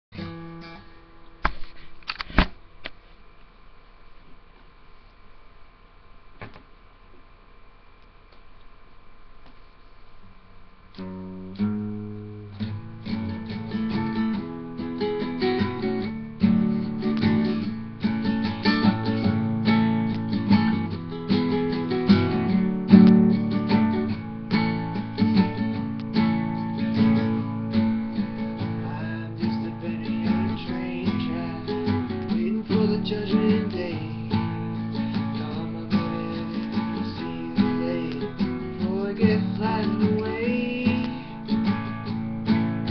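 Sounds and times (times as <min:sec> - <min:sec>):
acoustic guitar: 0:00.1 - 0:02.5, 0:10.9 - 0:42.9.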